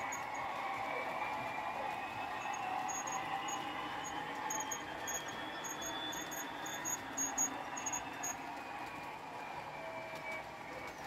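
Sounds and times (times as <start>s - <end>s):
faint model train motor whine: 0.0s - 11.0s.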